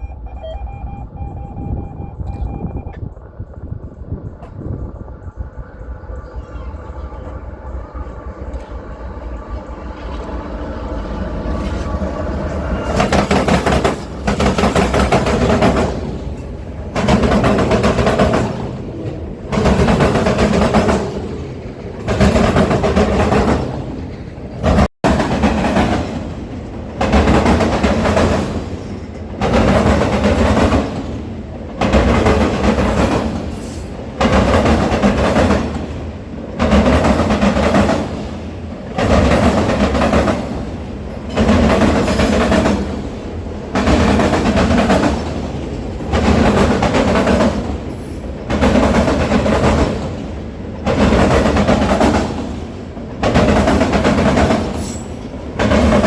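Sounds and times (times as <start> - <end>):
train cars rolling on rails: 0.0 - 56.0.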